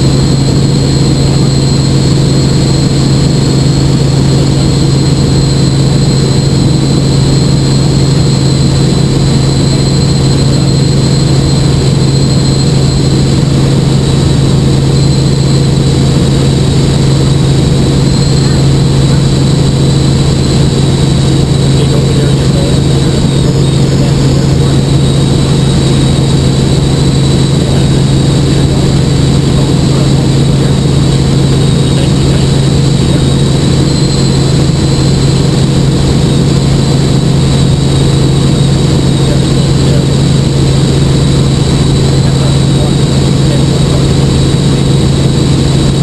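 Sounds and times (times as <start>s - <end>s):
helicopter engine and rotor drone: 0.0s - 46.0s
thin high whine: 0.0s - 46.0s.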